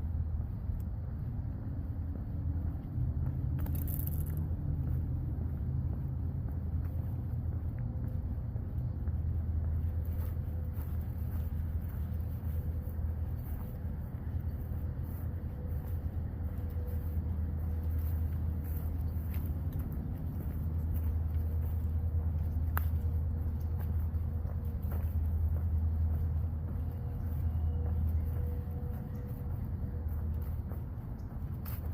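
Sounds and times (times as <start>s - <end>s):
engine rumble: 0.0s - 31.9s
faint hum: 0.0s - 31.9s.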